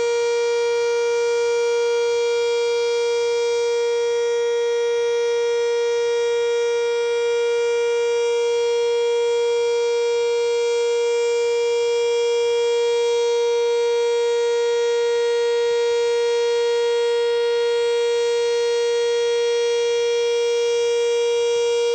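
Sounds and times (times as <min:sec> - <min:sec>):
warning siren steady tone: 0:00.0 - 0:21.9.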